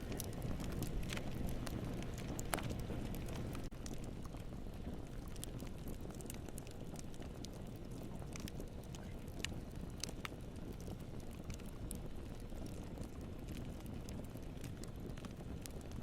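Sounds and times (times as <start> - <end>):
fire crackles and pops: 0.0 - 16.0
low rumble of flames: 0.0 - 16.0.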